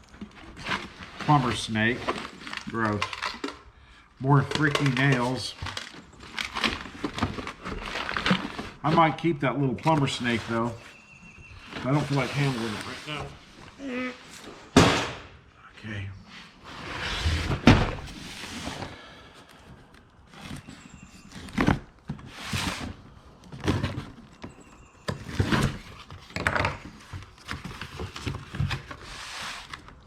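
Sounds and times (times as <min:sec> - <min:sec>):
cardboard rustling and scraping: 0:00.0 - 0:03.5, 0:04.4 - 0:14.7, 0:16.2 - 0:30.0.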